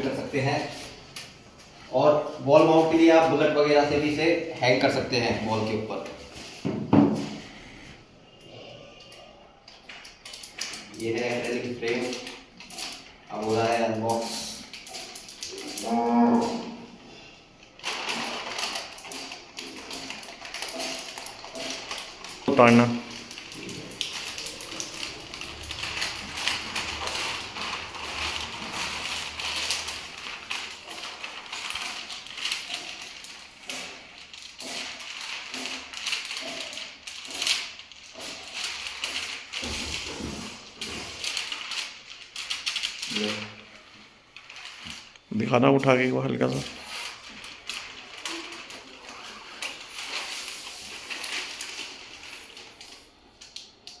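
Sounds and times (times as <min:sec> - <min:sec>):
paper sheet peeling and crinkling: 0:00.0 - 0:54.0.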